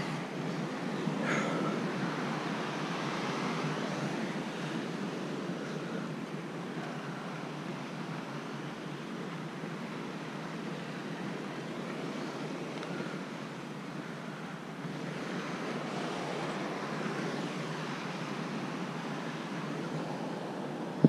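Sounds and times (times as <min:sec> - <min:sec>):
ocean surf rushing: 0:00.0 - 0:21.0
wind: 0:00.0 - 0:21.0.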